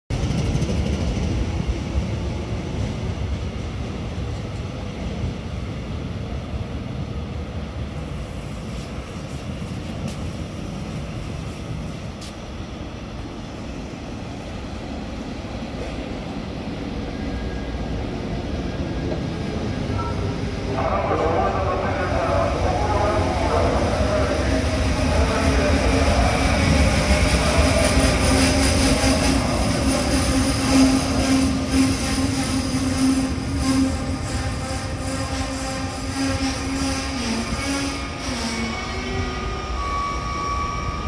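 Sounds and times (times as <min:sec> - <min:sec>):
passenger train approaching: 0:00.1 - 0:41.0
trains rumbling: 0:00.1 - 0:41.0.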